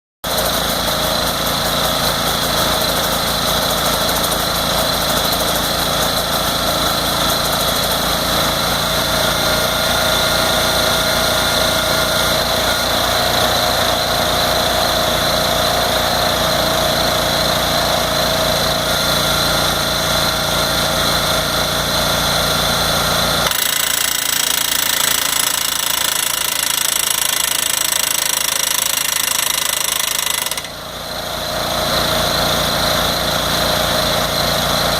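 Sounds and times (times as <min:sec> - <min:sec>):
pneumatic hammer: 0:00.3 - 0:18.0, 0:19.1 - 0:33.6
engine running: 0:00.3 - 0:34.9.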